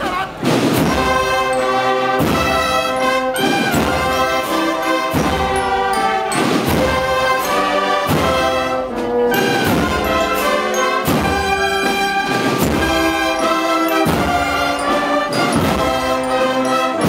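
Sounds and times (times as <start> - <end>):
brass band playing a slow march: 0.0 - 17.0.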